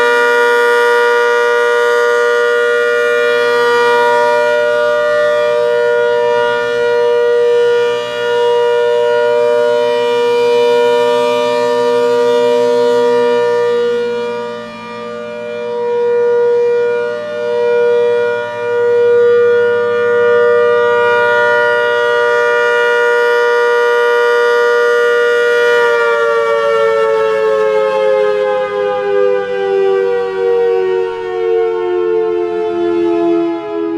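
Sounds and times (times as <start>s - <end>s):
warning siren: 0.0s - 33.9s.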